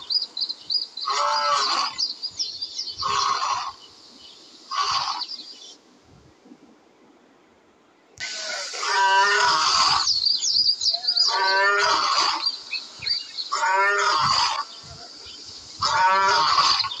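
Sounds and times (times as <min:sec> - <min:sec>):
birds chirping: 0:00.0 - 0:05.9, 0:08.0 - 0:17.0.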